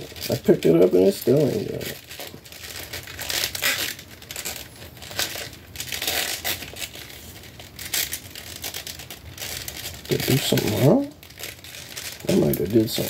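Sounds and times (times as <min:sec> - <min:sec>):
plastic toy parts rustling and scraping: 0:00.0 - 0:13.0.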